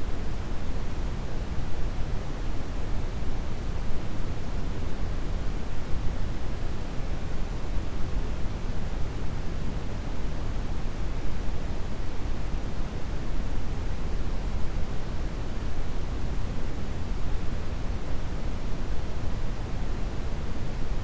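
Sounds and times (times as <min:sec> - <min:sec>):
brown noise hiss: 0:00.0 - 0:21.0.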